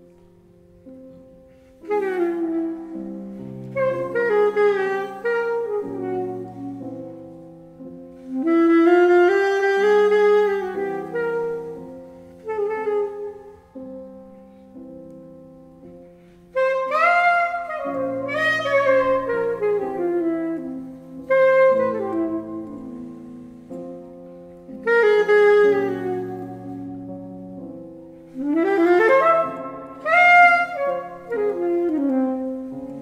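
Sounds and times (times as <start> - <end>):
piano chords: 0.0 - 33.0
saxophone playing jazz: 0.8 - 33.0.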